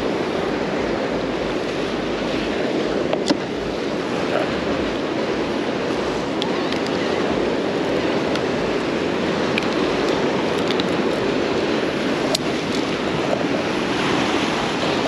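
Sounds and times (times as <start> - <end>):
surf washing against rocks: 0.0 - 15.0
wind on microphone: 0.0 - 15.0.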